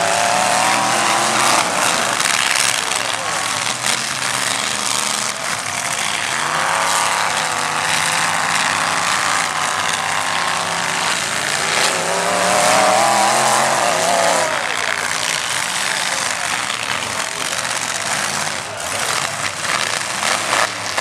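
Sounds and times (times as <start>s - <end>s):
truck engines revving hard: 0.0s - 21.0s
wheels spinning in dirt: 0.0s - 21.0s.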